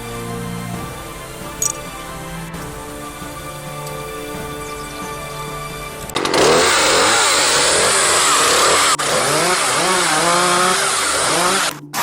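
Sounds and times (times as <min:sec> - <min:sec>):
chainsaw cutting: 0:00.7 - 0:12.0.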